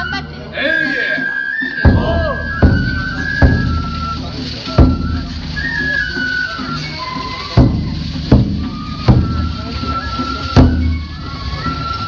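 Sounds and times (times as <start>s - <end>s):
flute melody: 0.0s - 12.0s
heavy drum strikes: 1.8s - 12.0s.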